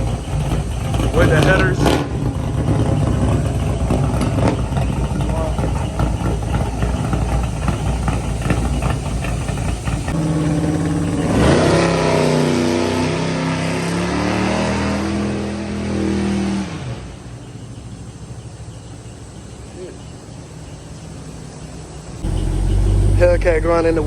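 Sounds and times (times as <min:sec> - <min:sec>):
car engine revving: 0:00.0 - 0:19.2, 0:22.2 - 0:24.0.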